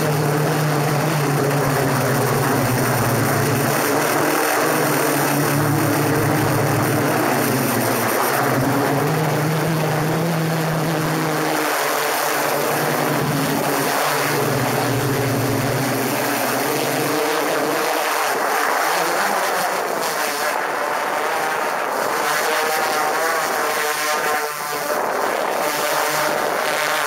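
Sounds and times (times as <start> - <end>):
drone propellers whirring: 0.0 - 27.0.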